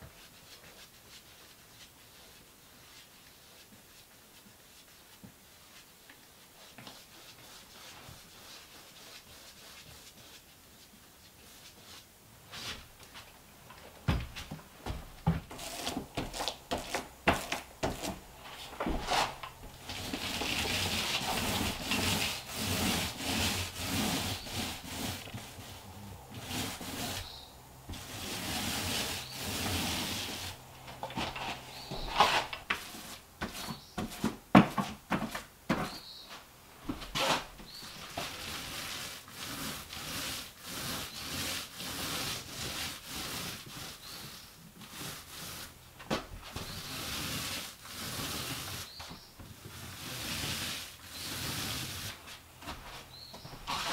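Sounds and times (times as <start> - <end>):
paint roller rubbing on wall: 0.2 - 13.3, 14.8 - 36.3, 36.9 - 53.9.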